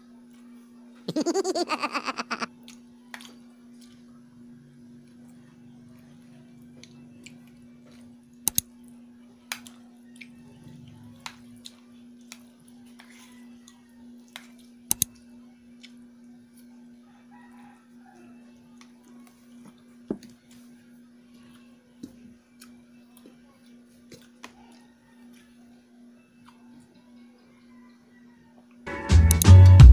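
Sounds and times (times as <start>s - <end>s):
soft chewing: 2.4s - 28.7s.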